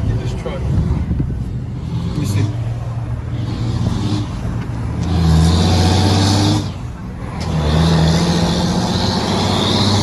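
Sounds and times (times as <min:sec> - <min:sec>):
road and wind noise: 0:00.0 - 0:10.0
vehicle engine droning: 0:00.0 - 0:10.0.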